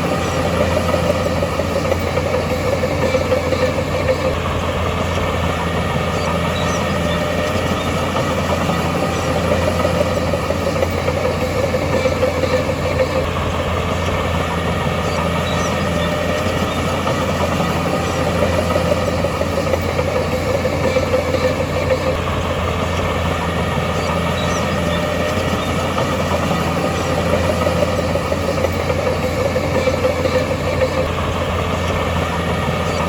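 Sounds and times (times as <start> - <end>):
heavy diesel engine droning: 0.0 - 33.0.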